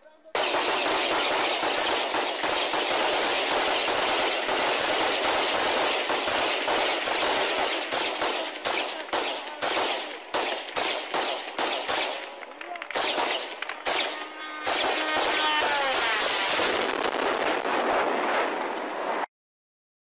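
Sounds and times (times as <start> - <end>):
small-arms gunfire: 0.4 - 18.4.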